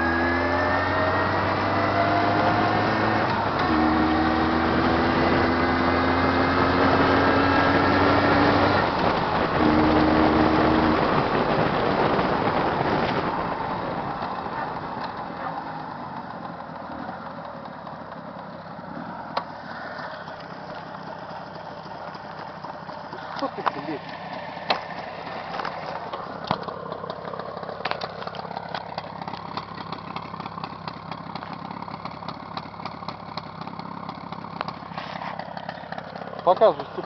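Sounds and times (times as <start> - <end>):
two-stroke motorcycle engine: 0.0 - 37.0.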